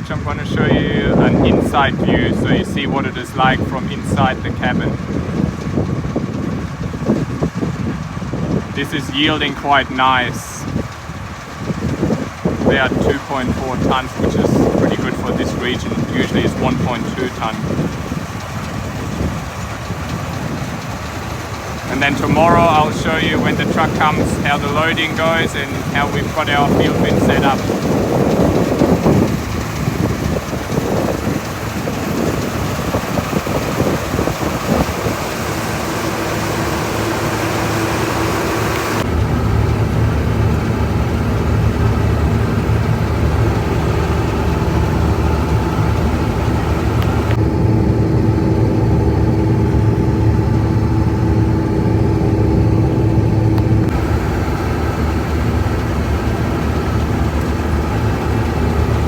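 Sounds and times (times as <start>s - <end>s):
harvester engine running: 0.0s - 59.0s
wind noise: 0.0s - 59.0s.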